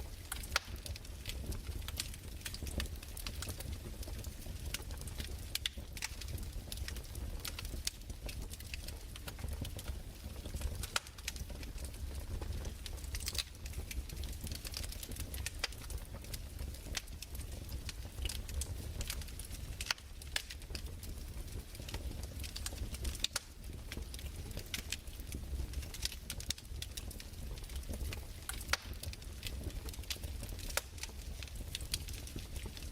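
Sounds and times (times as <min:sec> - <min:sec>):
fire crackling: 0:00.0 - 0:32.9
low rumble of fire: 0:00.0 - 0:32.9.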